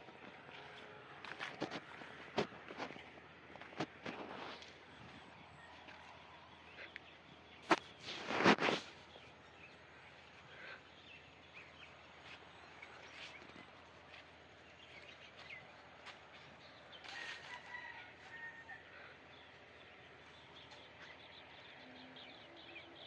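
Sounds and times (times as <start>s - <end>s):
faint bird calls: 0.5s - 23.0s.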